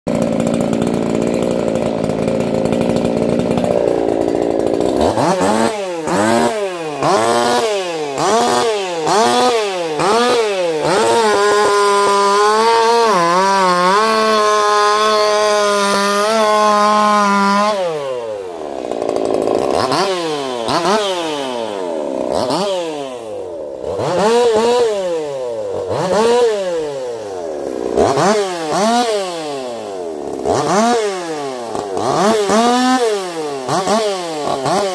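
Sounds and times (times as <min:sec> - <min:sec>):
chainsaw revving: 0:00.1 - 0:34.9.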